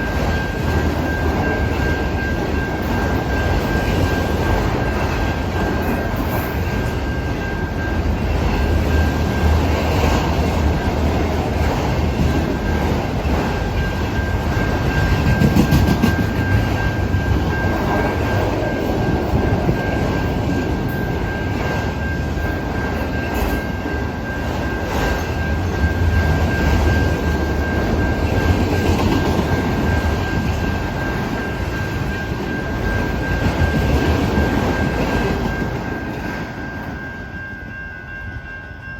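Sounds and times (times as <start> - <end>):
freight train rumbling on rails: 0.0 - 38.9.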